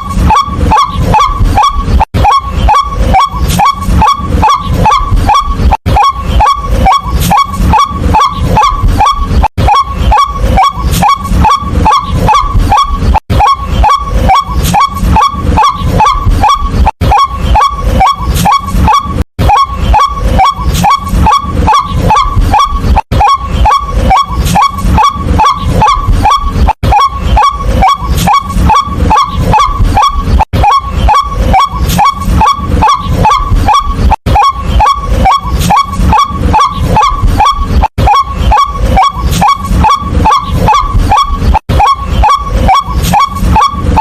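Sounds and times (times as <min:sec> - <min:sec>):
bird calling harshly: 0:00.0 - 0:44.0.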